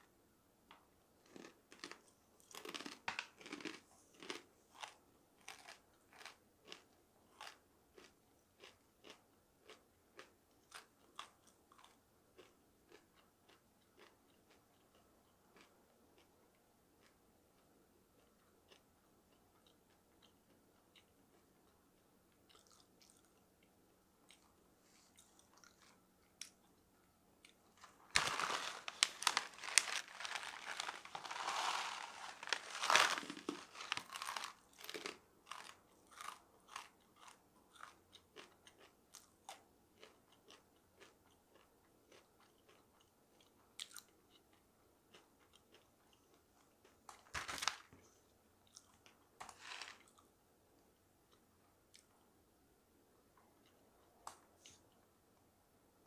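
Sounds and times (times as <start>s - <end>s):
crunchy chewing: 1.2s - 16.3s, 17.0s - 26.8s, 27.4s - 47.7s.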